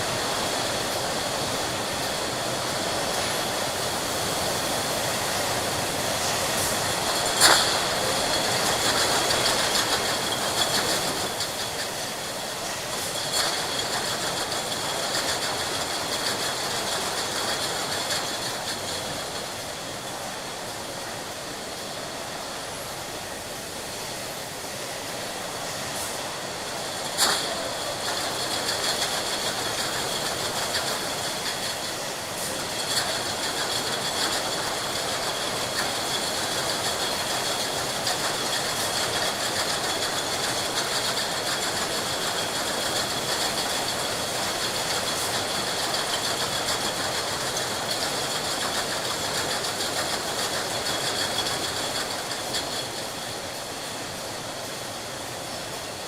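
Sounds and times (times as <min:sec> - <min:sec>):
machinery clatter: 0:00.1 - 0:20.8, 0:25.9 - 0:54.2.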